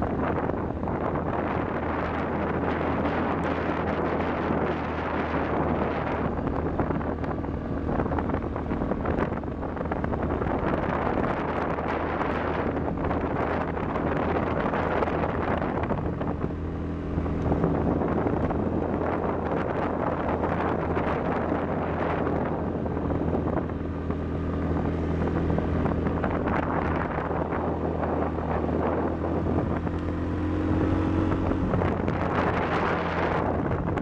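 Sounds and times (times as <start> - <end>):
atv engine running: 0.0 - 34.0
wind buffeting microphone: 0.0 - 34.0.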